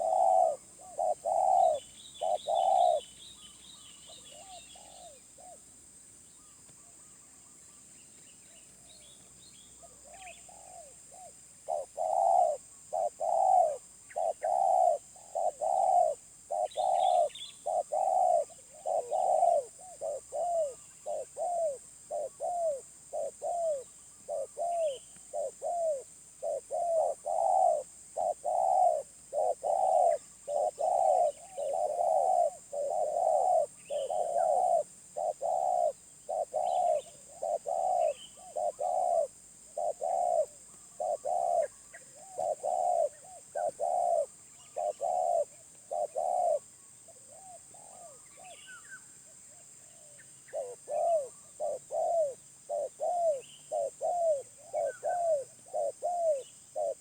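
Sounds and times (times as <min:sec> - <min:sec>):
dove cooing: 0:00.0 - 0:05.7, 0:09.8 - 0:57.0
small birds chirping: 0:00.0 - 0:57.0.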